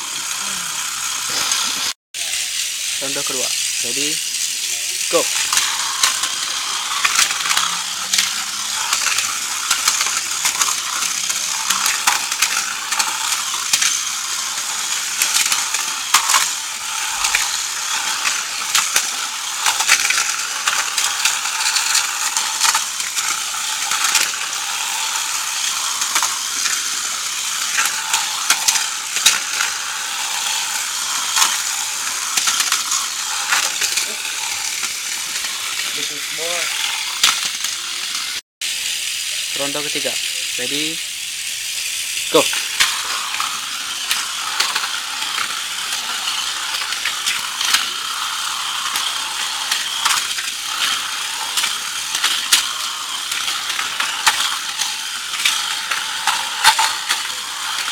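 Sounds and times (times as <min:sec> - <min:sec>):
toy car motors whirring: 0:00.0 - 0:57.9.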